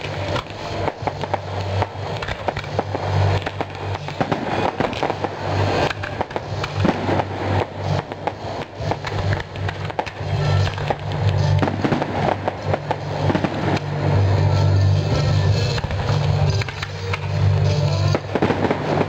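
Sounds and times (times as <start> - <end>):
firework bangs and crackling: 0.0 - 19.0
low hum: 0.0 - 19.0
rockets and fountains rushing: 0.0 - 19.0.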